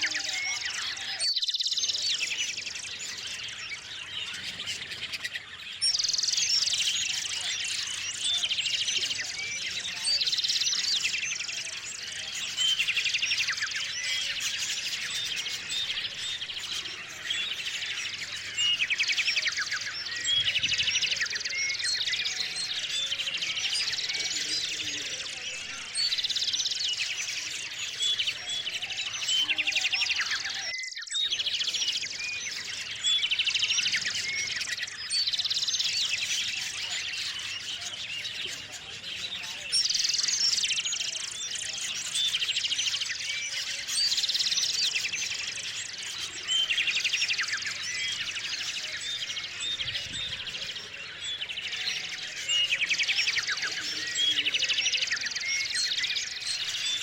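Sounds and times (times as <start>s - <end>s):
small songbirds chirping and trilling: 0.0s - 57.0s.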